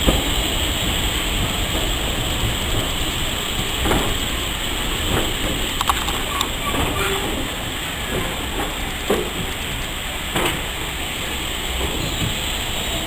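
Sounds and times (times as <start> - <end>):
steam train rumble and hiss: 0.0 - 13.0.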